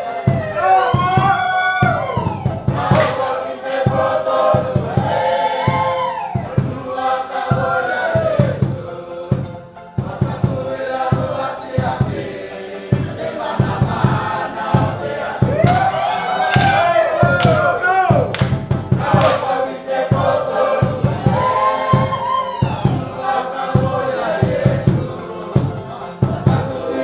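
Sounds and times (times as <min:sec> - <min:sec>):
group singing and chanting: 0:00.0 - 0:27.0
steady drum beat: 0:00.0 - 0:27.0.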